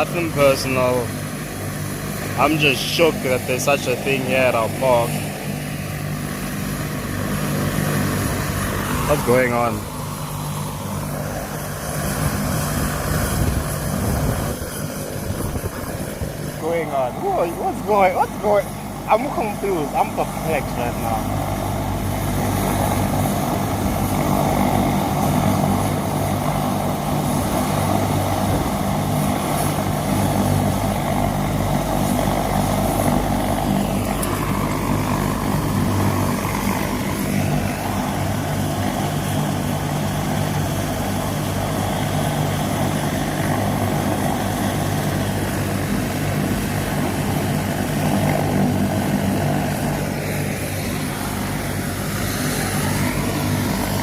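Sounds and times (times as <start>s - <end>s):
helicopter engine and rotor: 0.0s - 54.0s
steady low hum: 0.0s - 54.0s.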